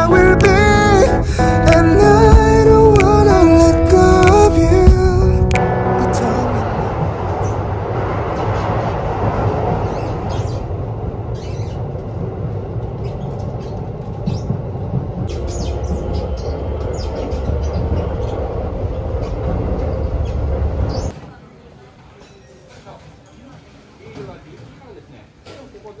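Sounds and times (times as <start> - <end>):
train wheels rumbling on rails: 0.0 - 21.4.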